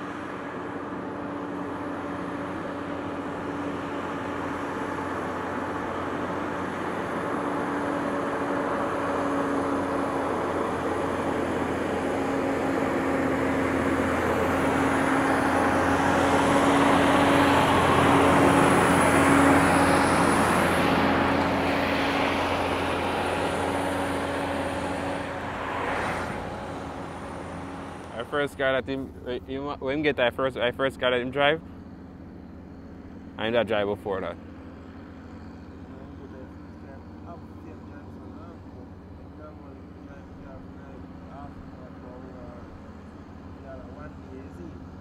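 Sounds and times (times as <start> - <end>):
diesel truck engine pulling: 0.0 - 45.0.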